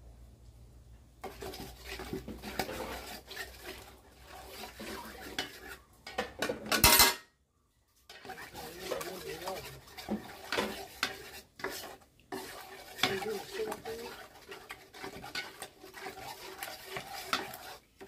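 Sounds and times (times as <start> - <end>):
metal spoon scraping steel pot: 1.2 - 7.2, 8.1 - 18.0.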